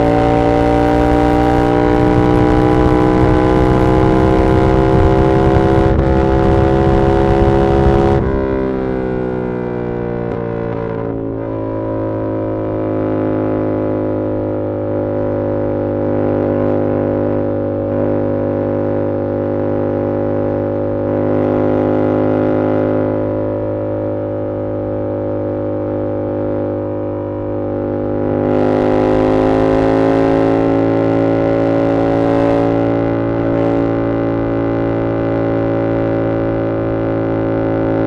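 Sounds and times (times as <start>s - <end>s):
motorcycle engine cruising: 0.0s - 38.0s.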